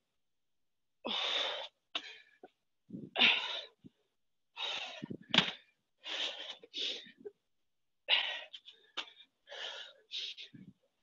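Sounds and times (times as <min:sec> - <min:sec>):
woman breathing hard: 0:01.0 - 0:07.3, 0:08.0 - 0:10.8.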